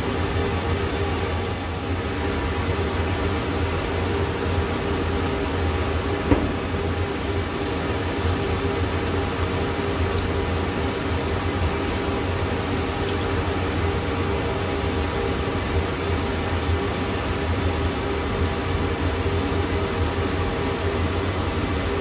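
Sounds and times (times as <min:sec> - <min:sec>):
low machine hum: 0:00.0 - 0:22.0
server fans rushing hiss: 0:00.0 - 0:22.0.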